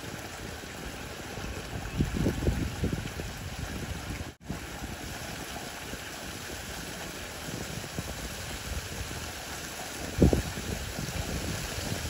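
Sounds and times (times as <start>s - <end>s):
wind rumble on microphone: 1.4s - 12.0s.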